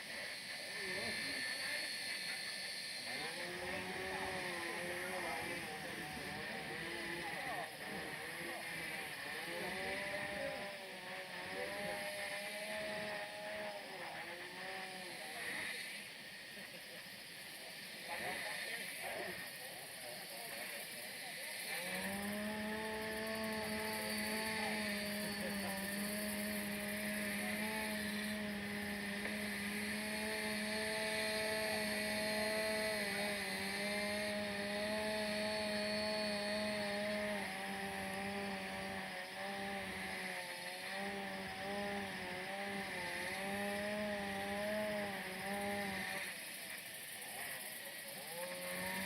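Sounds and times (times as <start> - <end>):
small engine running: 0.0 - 49.0.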